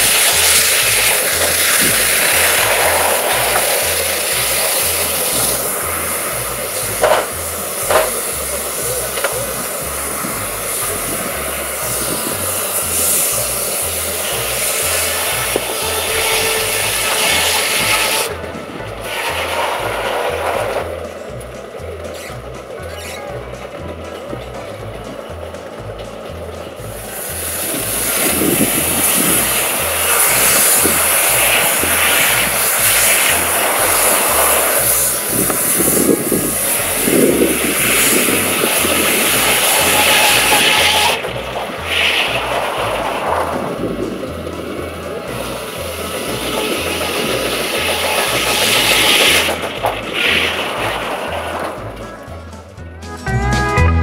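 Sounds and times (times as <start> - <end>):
sawmill rushing noise: 0.0 - 54.0
steam engine low pulse: 0.0 - 54.0.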